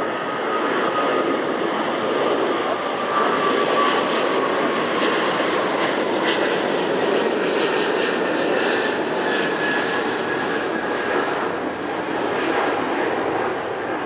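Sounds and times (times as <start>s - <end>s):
jet engines roaring with whine: 0.0s - 14.0s.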